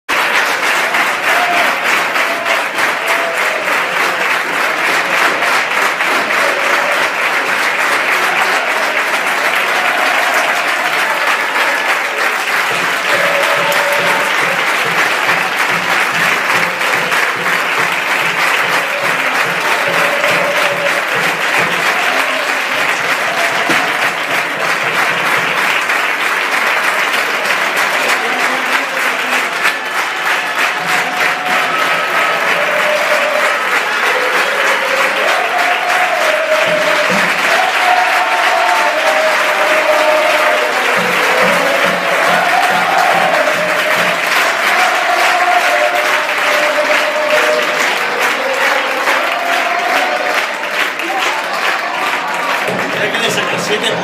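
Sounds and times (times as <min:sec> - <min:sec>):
stadium crowd applauding: 0:00.0 - 0:54.0.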